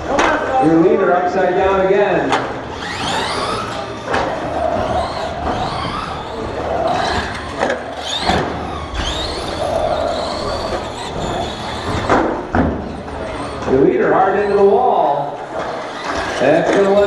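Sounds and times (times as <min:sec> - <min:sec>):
toy truck motors whining: 0:02.6 - 0:14.8, 0:15.4 - 0:17.0.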